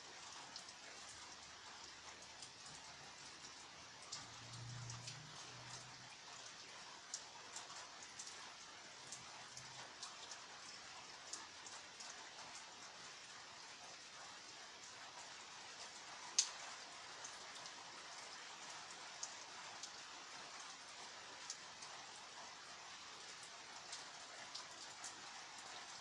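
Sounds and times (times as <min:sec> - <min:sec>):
faint steady rain: 0:00.0 - 0:26.0
raindrops ticking on hard surface: 0:00.1 - 0:26.0.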